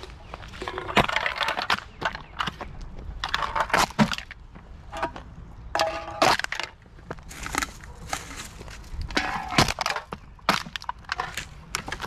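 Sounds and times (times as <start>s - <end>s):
aluminium cans crinkling and clattering: 0.5s - 2.6s, 3.2s - 5.1s, 5.7s - 12.0s.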